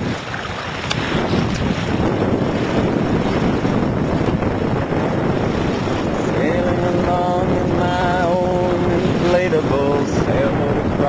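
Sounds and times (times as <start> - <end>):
water slapping against hulls: 0.0 - 11.0
wind buffeting microphone: 0.0 - 11.0.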